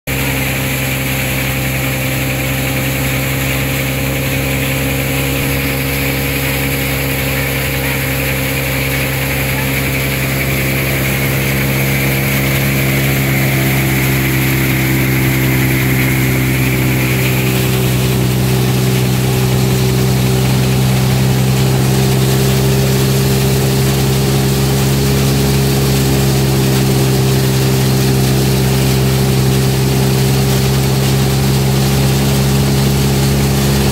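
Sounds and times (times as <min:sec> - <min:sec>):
diesel engine drone with whine: 0:00.1 - 0:33.9
grain thresher running: 0:00.1 - 0:33.9
seed pouring from chute: 0:00.1 - 0:33.9.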